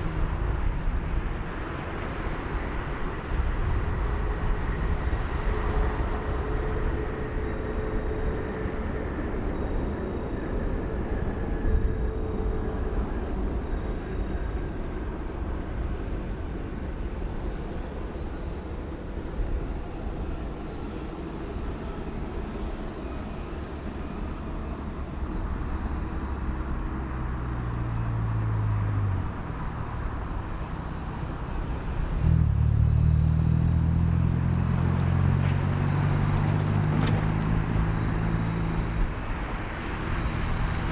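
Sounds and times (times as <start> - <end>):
jet airliner rumble: 0.0 - 33.0, 34.2 - 40.9
road vehicle engine: 0.0 - 40.9.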